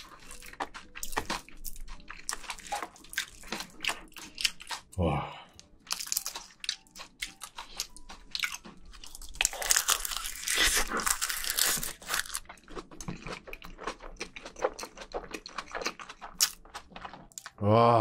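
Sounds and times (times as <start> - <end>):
wet chewing with clicks and smacks: 0.0 - 17.6.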